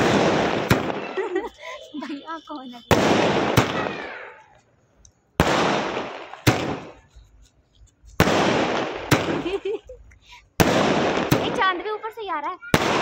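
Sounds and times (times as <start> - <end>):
firework bangs: 0.0 - 4.6, 5.4 - 7.2, 8.1 - 10.0, 10.6 - 13.0
firework crackle: 0.0 - 4.7, 5.4 - 10.0, 10.6 - 13.0.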